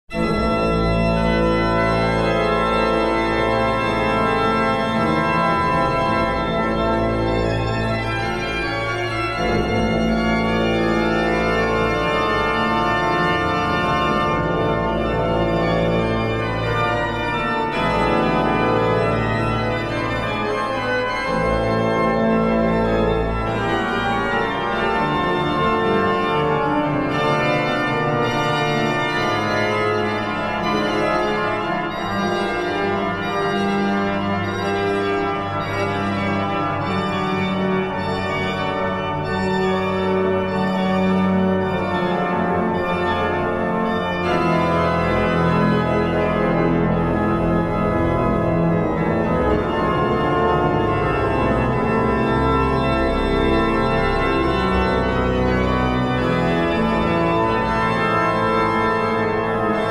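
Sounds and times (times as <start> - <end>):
deep organ pedal bass: 0.1 - 59.9
pipe organ chords: 0.1 - 59.9.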